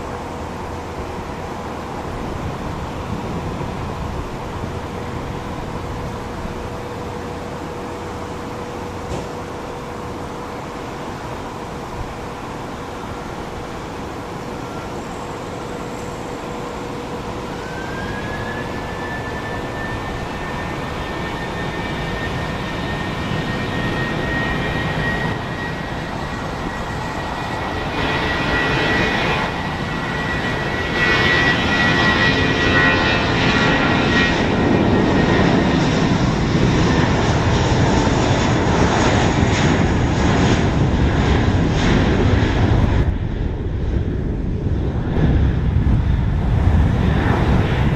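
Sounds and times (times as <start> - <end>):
jet engines whine: 0.0 - 47.9
jet roar: 0.0 - 47.9.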